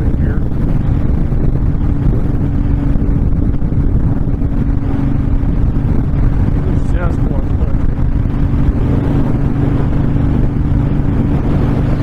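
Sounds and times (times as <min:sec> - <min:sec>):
motorcycle engine hum: 0:00.0 - 0:12.0
wind rushing over microphone: 0:00.0 - 0:12.0.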